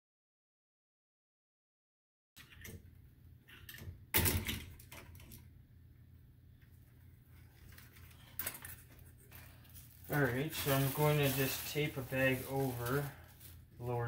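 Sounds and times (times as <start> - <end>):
low steady hum: 2.4 - 14.0.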